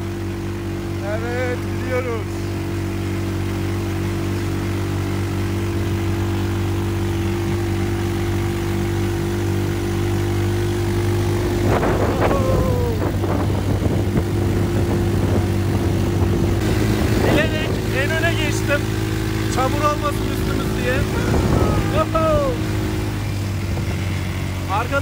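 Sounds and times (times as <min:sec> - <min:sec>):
vehicle engine droning: 0:00.0 - 0:25.0
vehicle rattling over bumps: 0:00.0 - 0:25.0.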